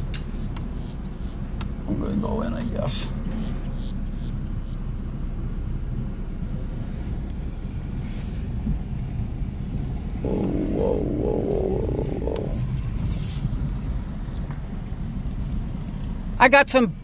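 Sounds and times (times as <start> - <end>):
road rumble: 0.0 - 17.0.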